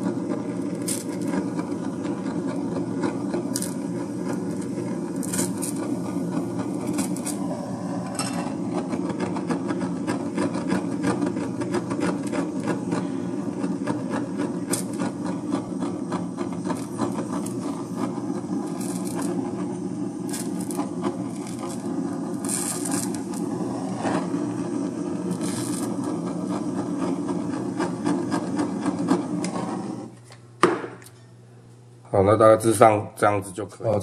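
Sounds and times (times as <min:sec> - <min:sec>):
blowtorch flame burning: 0:00.0 - 0:31.3.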